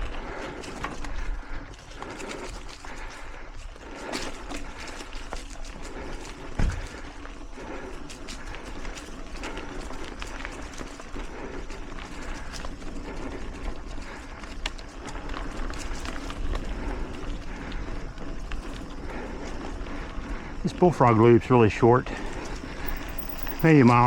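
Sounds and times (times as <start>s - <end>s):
bike tyres on dirt trail: 0.0s - 24.0s.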